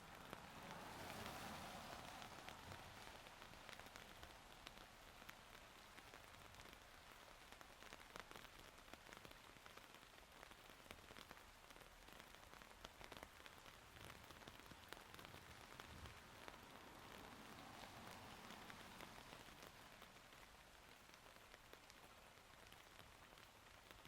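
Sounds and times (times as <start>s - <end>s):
faint rainfall: 0.0s - 24.0s.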